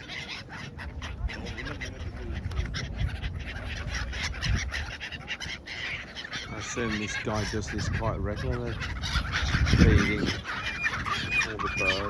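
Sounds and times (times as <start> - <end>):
waterfowl calling and chattering: 0.0 - 12.0.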